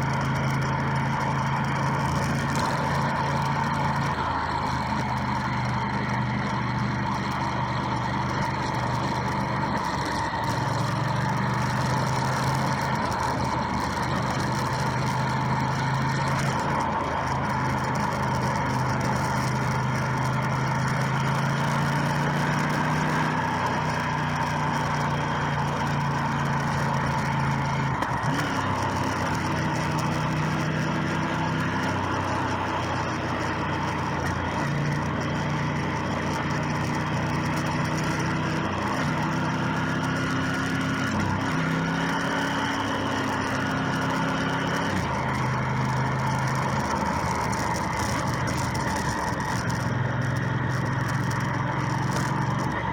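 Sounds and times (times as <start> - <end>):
motorcycle engine shifting gears: 0.0 - 52.9
wind and road noise: 0.0 - 52.9.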